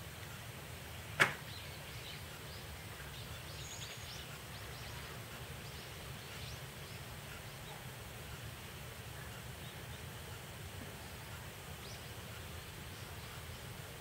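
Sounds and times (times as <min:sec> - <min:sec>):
low outdoor rumble: 0:00.0 - 0:14.0
small birds chirping: 0:00.8 - 0:14.0.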